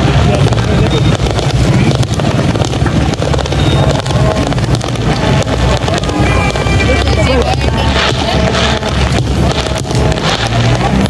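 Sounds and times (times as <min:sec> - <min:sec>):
fireworks popping and crackling: 0:00.0 - 0:11.0
wind rumble on microphone: 0:00.0 - 0:11.0.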